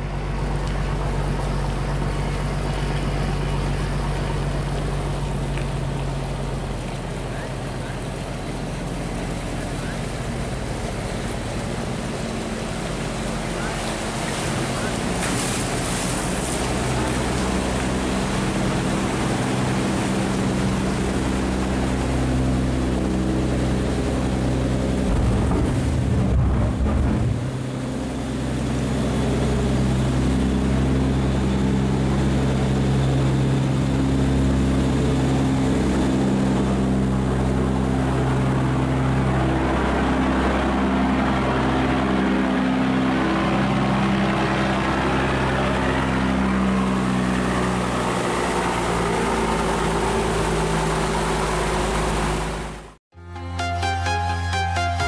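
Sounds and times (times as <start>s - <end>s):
propeller wash churning water: 0.0s - 53.0s
diesel engine droning: 0.0s - 55.0s.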